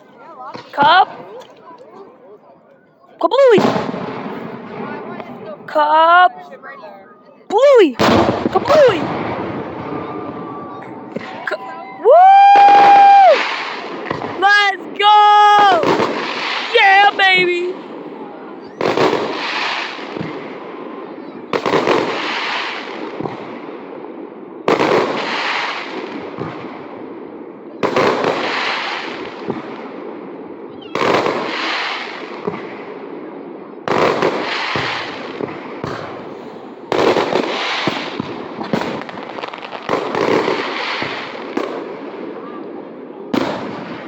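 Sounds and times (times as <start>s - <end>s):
fireworks bursting: 0.0s - 2.0s, 3.3s - 6.9s, 7.5s - 44.0s.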